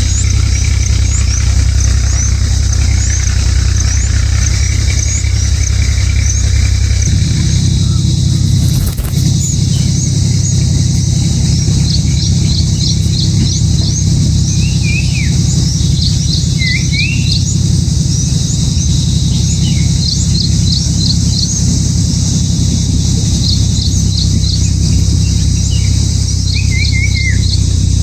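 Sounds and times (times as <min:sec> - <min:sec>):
loud steady low hum: 0:00.0 - 0:28.0
lower slurred bird calls: 0:00.0 - 0:28.0
small birds chirping: 0:00.0 - 0:28.0.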